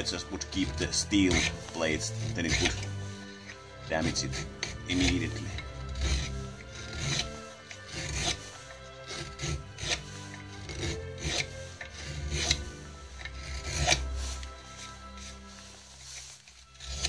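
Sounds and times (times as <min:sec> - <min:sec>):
knife rasping into wood: 0:00.0 - 0:17.0.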